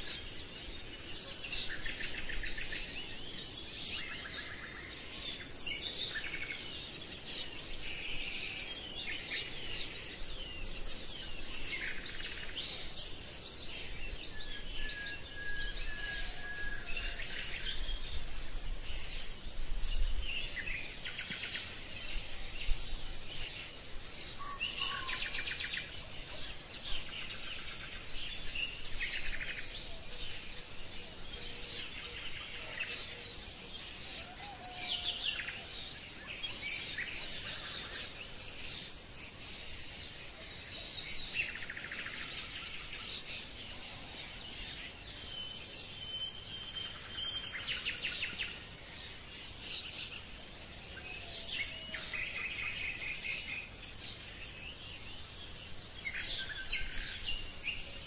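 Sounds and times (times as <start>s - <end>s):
birds chirping and trilling: 0.0s - 58.0s
steady background hiss: 0.0s - 58.0s.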